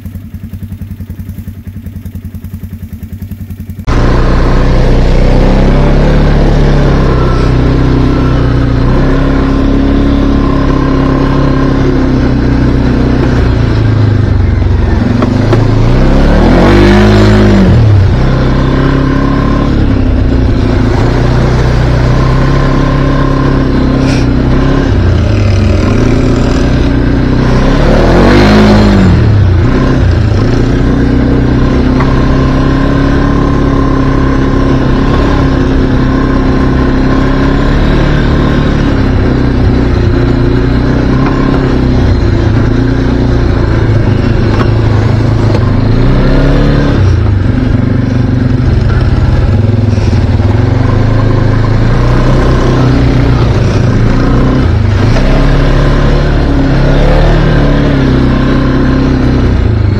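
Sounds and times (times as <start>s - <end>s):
atv engine idling and revving: 0.0s - 59.9s.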